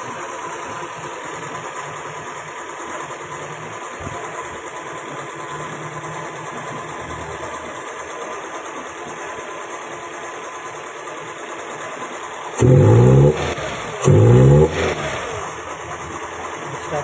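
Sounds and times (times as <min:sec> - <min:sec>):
car engine idling with misfire: 0:00.0 - 0:17.0
engine knock: 0:00.0 - 0:17.0.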